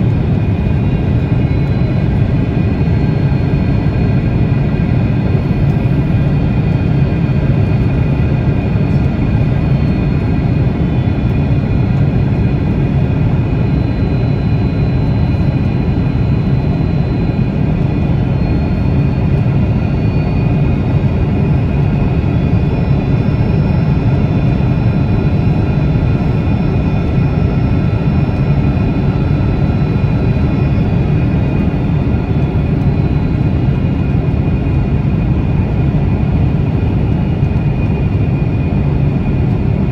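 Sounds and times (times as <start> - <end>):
faint engine whine: 0.0 - 39.9
jet engines rumbling in cabin: 0.0 - 39.9.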